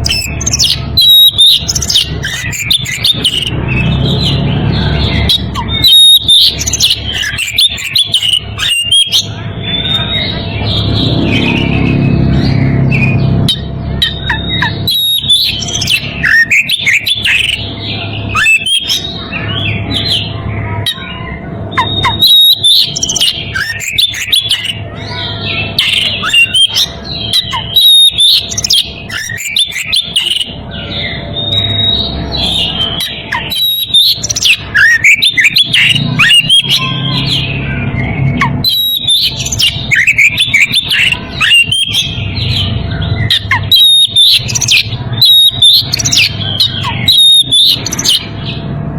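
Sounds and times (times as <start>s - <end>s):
bird singing whistles and chirps: 0.0s - 48.6s.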